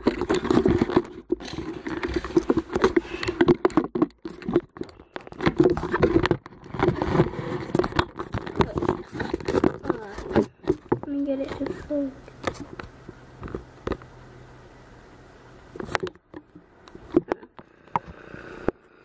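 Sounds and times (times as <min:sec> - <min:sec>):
rustling scraping and clicking: 0:00.0 - 0:14.1, 0:15.7 - 0:18.8.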